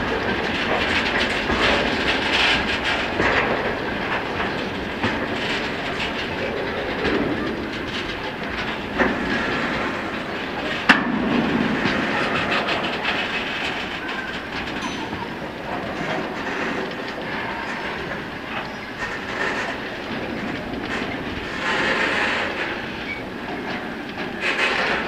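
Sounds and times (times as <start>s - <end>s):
freight train rumbling past: 0.0s - 25.0s
wheels clicking over rail joints: 0.0s - 25.0s.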